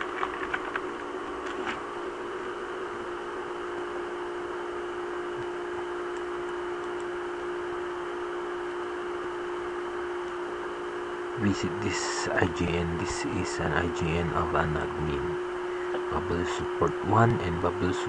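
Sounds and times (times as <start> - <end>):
fan drone: 0.0 - 18.0.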